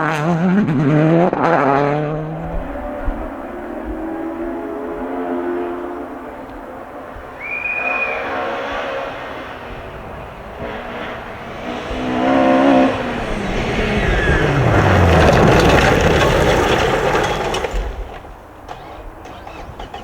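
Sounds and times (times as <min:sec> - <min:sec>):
rally car engine passing: 0:00.0 - 0:20.0
tyre and road noise: 0:00.0 - 0:20.0.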